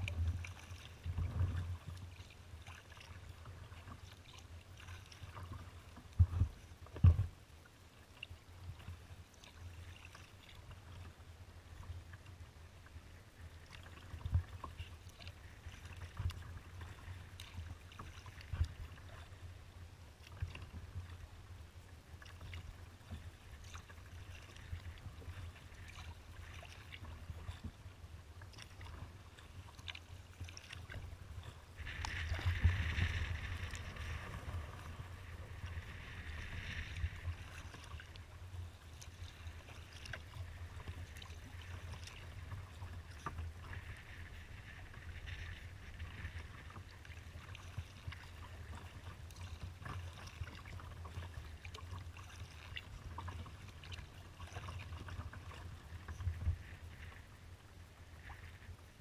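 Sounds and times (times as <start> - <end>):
paddle splashing and dripping: 0.0 - 7.4, 8.0 - 11.1, 13.0 - 19.5, 22.1 - 57.2.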